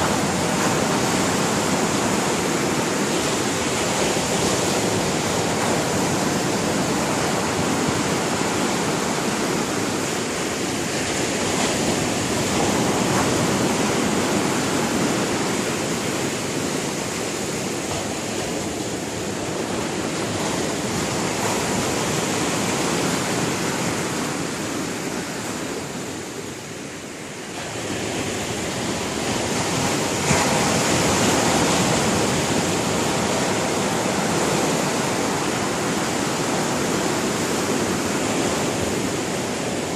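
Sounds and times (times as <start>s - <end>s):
wave crashing: 0.0s - 39.9s
waves breaking on shore: 0.0s - 39.9s.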